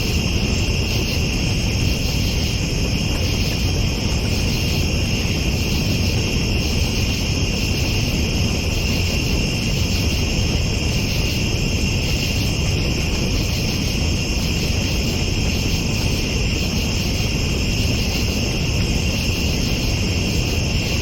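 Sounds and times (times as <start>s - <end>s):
night insects trilling: 0.0s - 21.0s.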